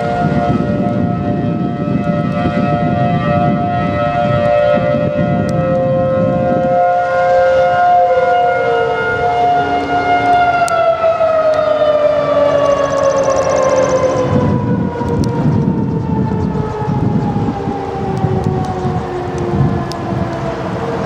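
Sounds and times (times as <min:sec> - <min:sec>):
sirens winding down: 0:00.0 - 0:21.0.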